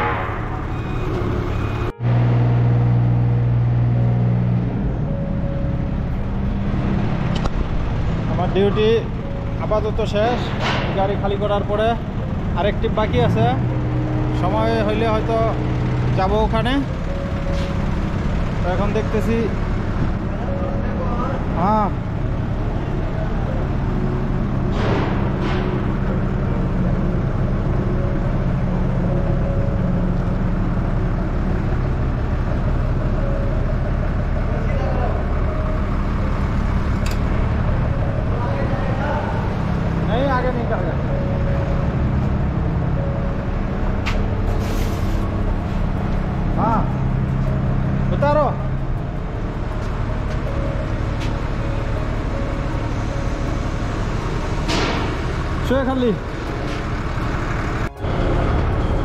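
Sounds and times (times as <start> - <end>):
forklift diesel engine running: 0.0 - 59.0.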